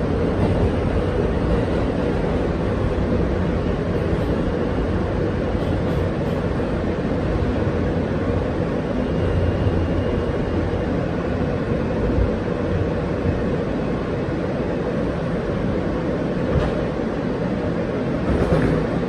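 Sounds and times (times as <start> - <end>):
subway train running: 0.0 - 19.0.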